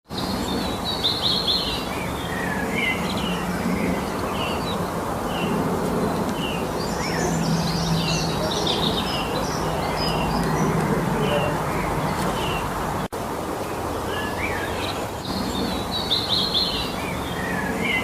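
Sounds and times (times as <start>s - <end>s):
songbirds chirping and trilling: 0.1s - 18.0s
steady background hiss: 0.1s - 18.0s.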